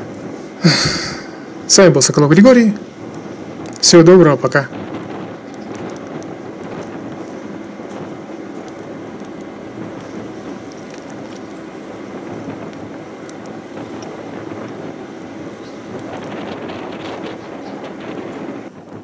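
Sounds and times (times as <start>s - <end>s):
faint crackles: 0.0s - 19.0s
strong wind on microphone: 0.0s - 19.0s.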